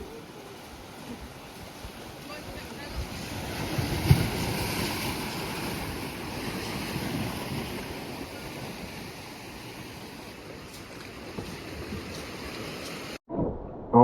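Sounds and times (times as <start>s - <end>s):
water splashing around a kayak: 0.0s - 13.2s.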